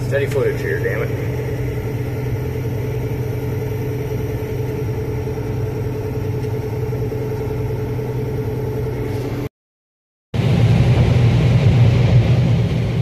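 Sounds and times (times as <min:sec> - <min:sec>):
combine harvester engine droning: 0:00.0 - 0:09.5, 0:10.4 - 0:13.0.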